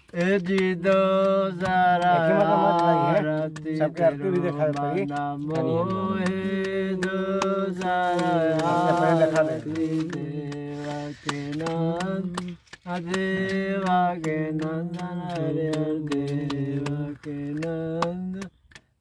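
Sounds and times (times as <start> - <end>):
light ticking percussion: 0.0 - 19.0
person singing devotional song: 0.0 - 19.0.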